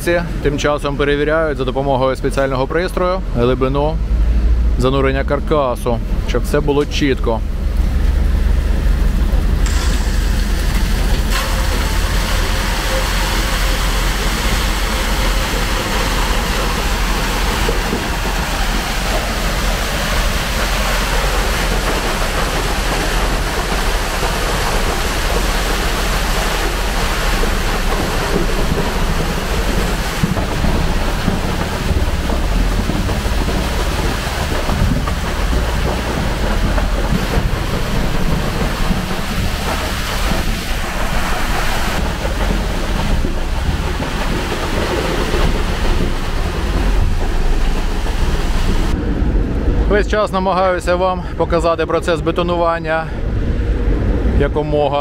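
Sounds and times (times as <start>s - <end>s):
truck engine droning: 0.0s - 55.0s
wet concrete rushing down chute: 0.0s - 55.0s.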